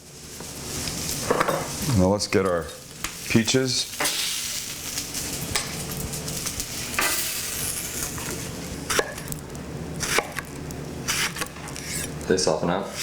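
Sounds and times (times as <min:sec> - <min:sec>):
fruit sizzling in a pan: 0:00.0 - 0:12.2.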